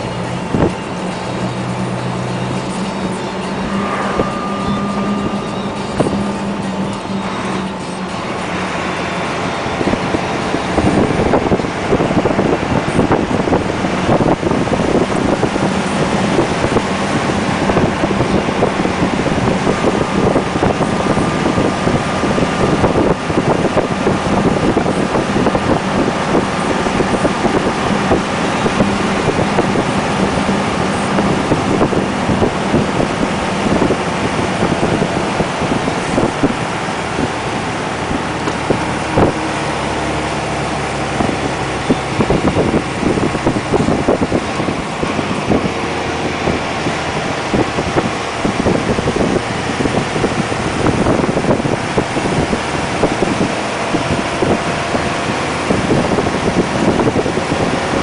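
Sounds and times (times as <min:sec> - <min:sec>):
dump truck diesel engine under load: 0:00.0 - 0:58.0.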